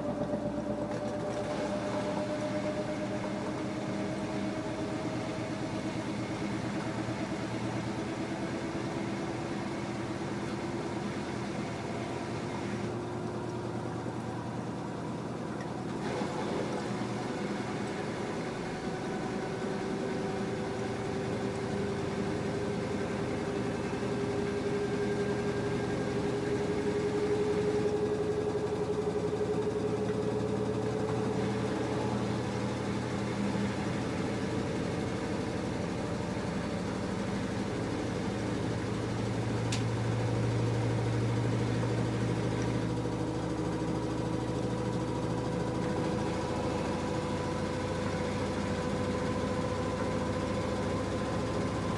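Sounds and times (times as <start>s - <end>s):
steady low hum: 0.0s - 51.9s
washing machine motor whine: 0.0s - 51.9s.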